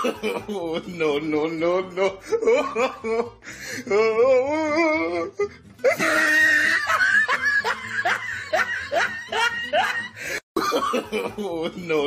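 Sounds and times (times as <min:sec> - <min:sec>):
person laughing: 0:00.0 - 0:12.0.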